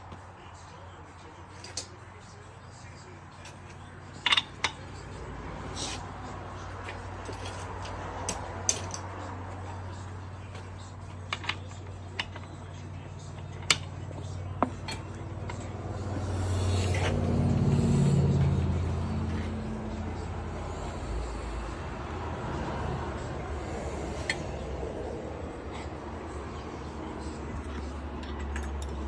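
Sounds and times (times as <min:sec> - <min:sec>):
vehicle passing: 0:02.2 - 0:29.0.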